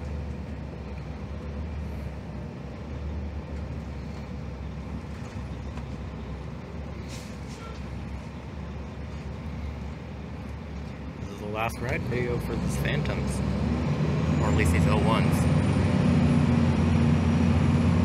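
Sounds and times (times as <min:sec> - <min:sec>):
bus engine drone: 0:00.0 - 0:18.0
road noise: 0:00.0 - 0:18.0.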